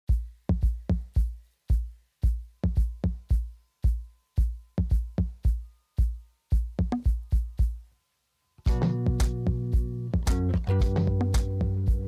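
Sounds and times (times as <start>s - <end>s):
electronic music with bass drum: 0.1s - 7.9s, 8.7s - 12.0s.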